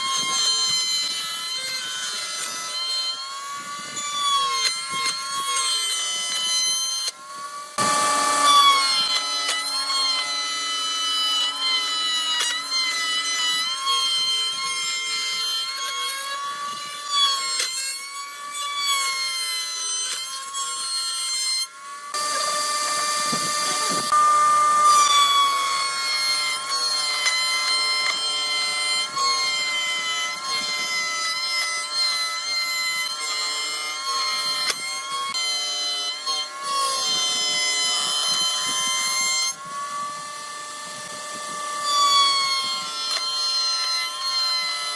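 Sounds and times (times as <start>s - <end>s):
harsh wood cutting noise: 0.0s - 44.9s
power tool motor whine: 0.0s - 44.9s.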